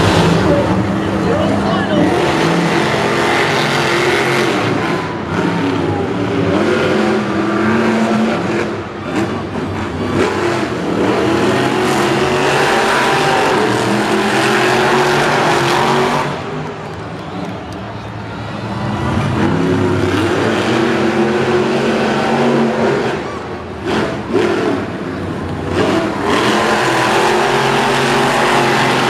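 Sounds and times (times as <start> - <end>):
monster truck engines revving: 0.0 - 29.0.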